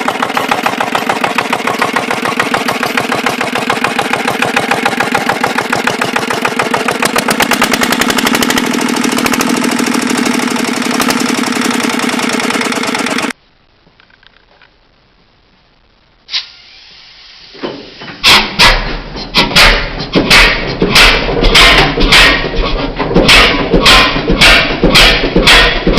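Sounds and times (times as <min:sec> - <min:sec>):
diesel engine running: 0:00.0 - 0:13.4, 0:18.3 - 0:25.9.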